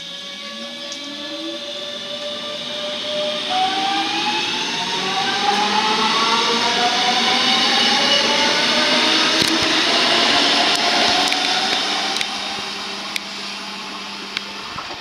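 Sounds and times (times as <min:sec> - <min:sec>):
electric train motors whining: 0:00.0 - 0:15.0.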